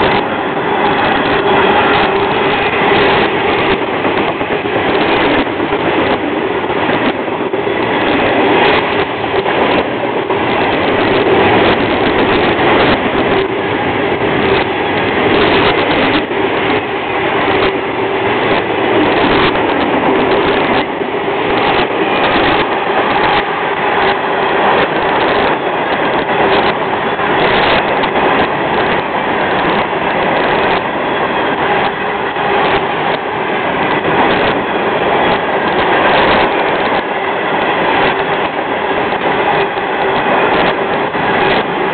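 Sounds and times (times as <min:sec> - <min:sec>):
wheel clacks over rail joints: 0:00.0 - 0:41.9.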